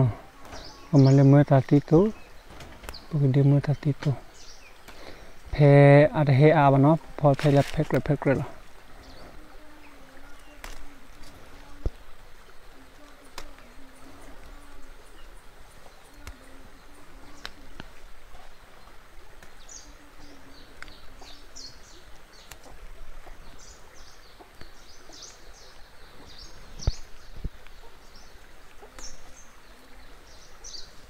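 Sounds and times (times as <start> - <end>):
outdoor background noise: 0.0 - 31.0
small birds chirping: 0.0 - 31.0.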